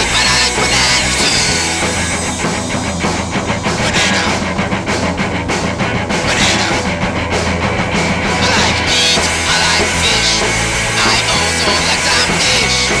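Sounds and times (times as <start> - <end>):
distorted electric guitar: 0.0 - 13.0
driving drum beat: 0.0 - 13.0
rock song: 0.0 - 13.0.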